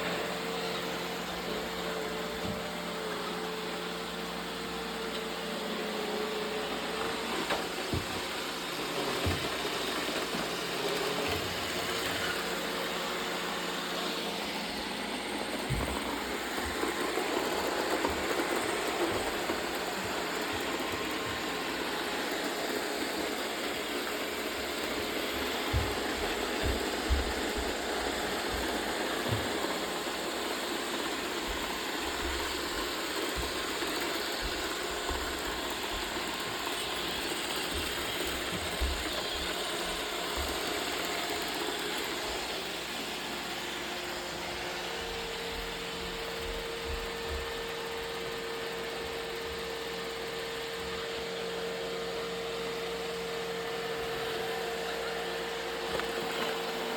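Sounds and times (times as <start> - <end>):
robot vacuum whirring and rattling: 0.0 - 56.9.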